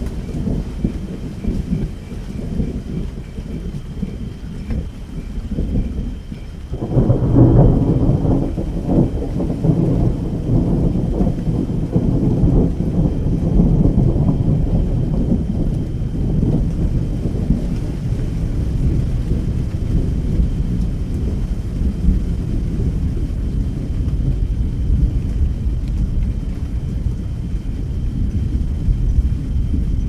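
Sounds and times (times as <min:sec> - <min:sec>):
rain: 0:00.0 - 0:30.0
rumble of thunder: 0:00.0 - 0:30.0.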